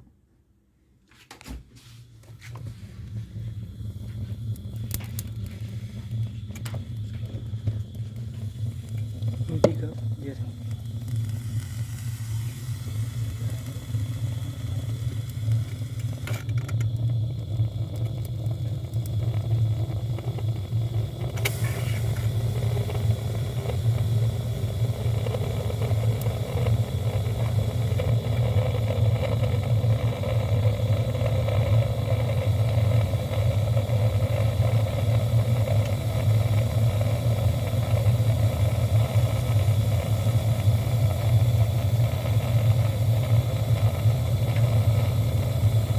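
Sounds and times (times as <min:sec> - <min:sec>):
low mechanical hum: 0:00.9 - 0:45.9.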